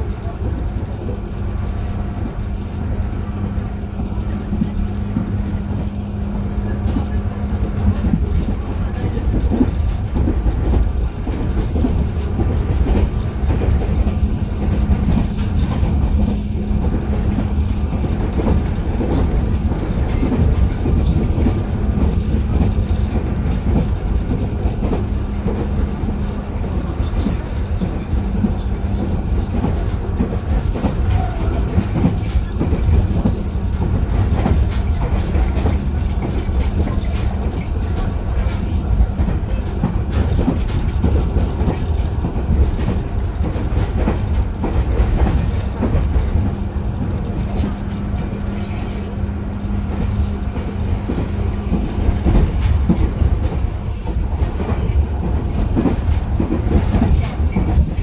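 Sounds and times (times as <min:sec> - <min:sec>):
train wheels clattering on track: 0:00.0 - 0:58.0.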